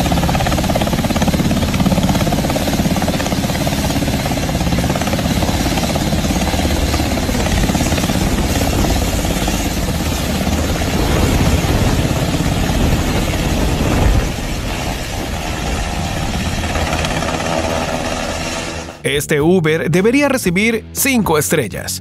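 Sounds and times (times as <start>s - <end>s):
helicopter hovering: 0.0s - 21.2s.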